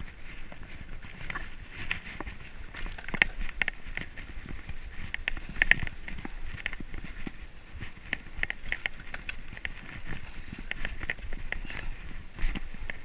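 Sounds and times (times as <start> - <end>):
bike rattling over rough trail: 0.0 - 13.0.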